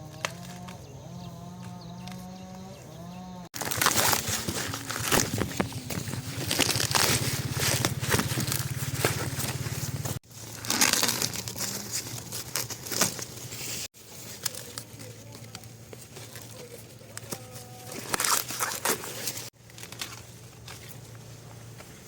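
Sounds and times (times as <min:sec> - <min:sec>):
dry corn leaves rustling: 0:03.6 - 0:22.0.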